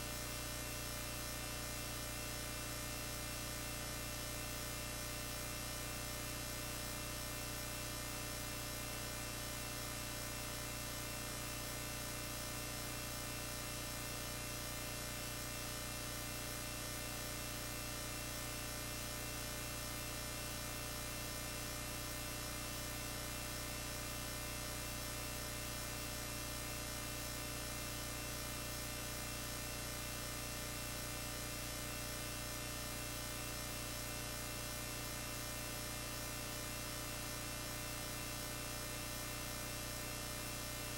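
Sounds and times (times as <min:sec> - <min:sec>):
electrical hum and hiss: 0:00.0 - 0:40.9.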